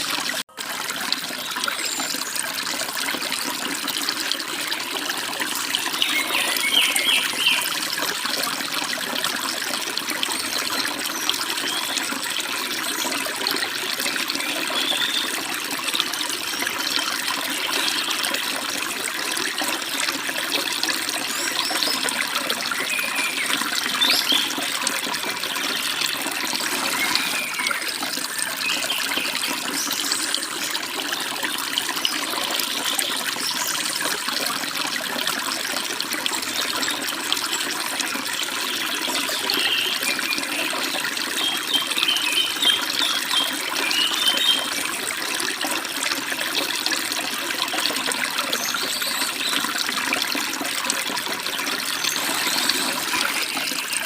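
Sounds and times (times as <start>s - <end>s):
stream babbling and splashing: 0.0s - 54.0s.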